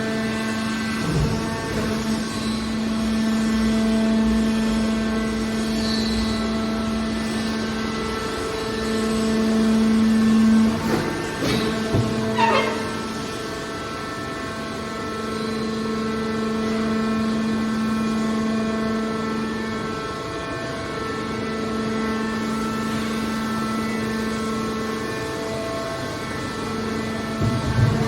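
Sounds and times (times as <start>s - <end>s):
car baler machine drone: 0.0s - 28.0s
power unit humming: 0.0s - 28.0s.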